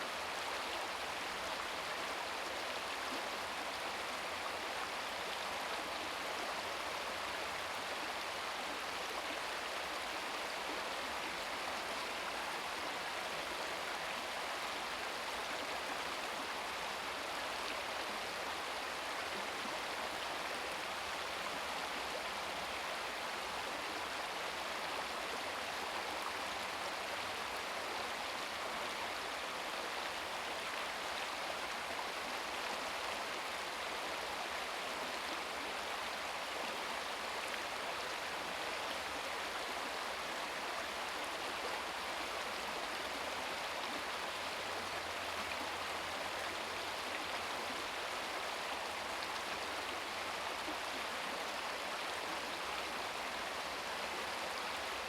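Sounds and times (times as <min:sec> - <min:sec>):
brook babbling over rocks: 0:00.0 - 0:55.0.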